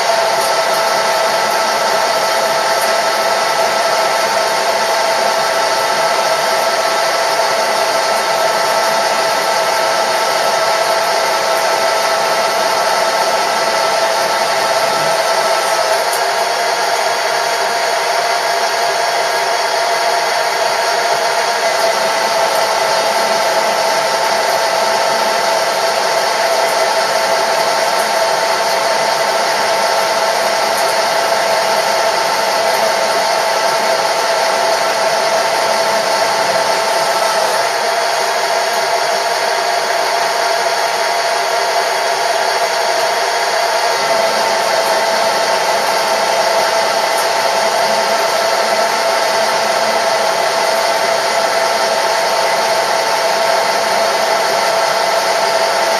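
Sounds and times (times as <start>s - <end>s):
machine tool motor whine: 0.0s - 55.9s.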